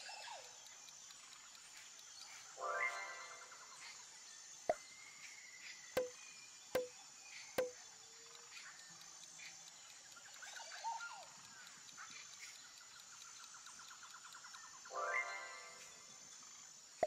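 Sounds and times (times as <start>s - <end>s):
small chirps: 0.0s - 17.0s.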